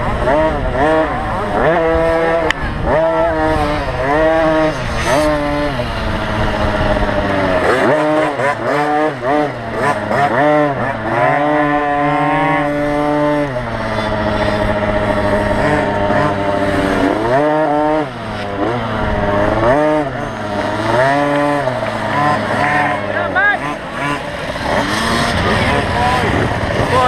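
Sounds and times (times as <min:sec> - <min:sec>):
dirt bike engines revving: 0:00.0 - 0:27.0
steady engine drone: 0:00.0 - 0:27.0.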